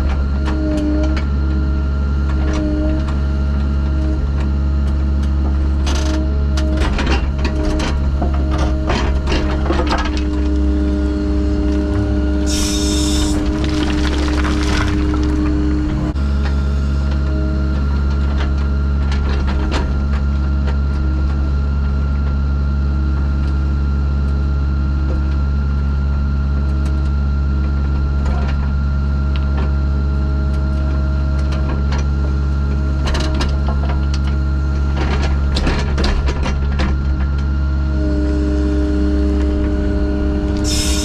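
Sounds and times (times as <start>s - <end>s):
diesel engine whining: 0.0s - 23.0s, 26.9s - 41.0s.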